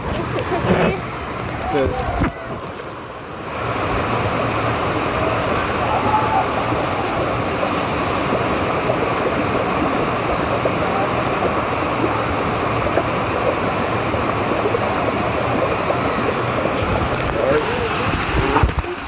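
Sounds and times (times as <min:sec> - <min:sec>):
water rushing through slide: 0:00.0 - 0:19.0.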